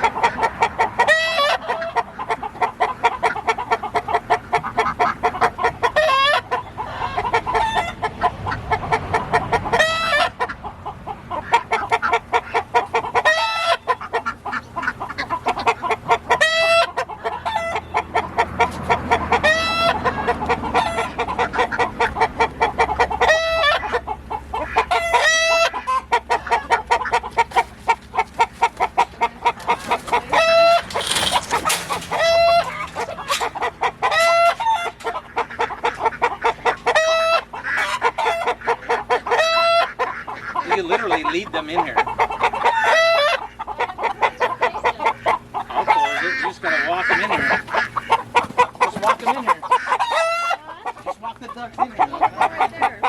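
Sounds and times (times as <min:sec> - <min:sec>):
chicken squawk: 0:00.0 - 0:53.0
chickens clucking: 0:00.0 - 0:53.0
roosters crowing: 0:00.0 - 0:53.0.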